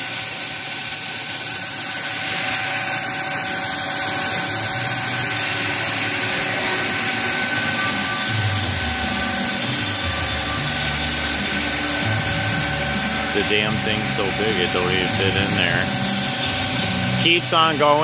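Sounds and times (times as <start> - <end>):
coolant spraying hiss: 0.0 - 18.0
lathe whine: 0.0 - 18.0.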